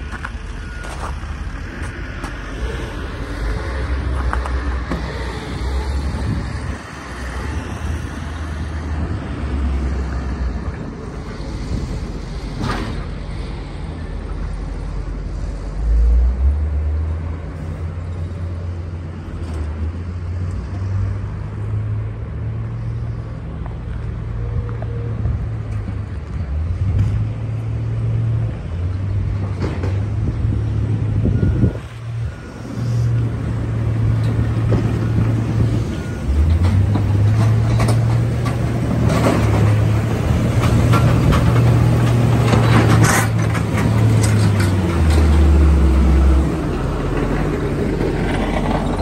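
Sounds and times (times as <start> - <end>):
diesel machinery rumbling: 0.0 - 49.0
street traffic rumble: 0.0 - 49.0.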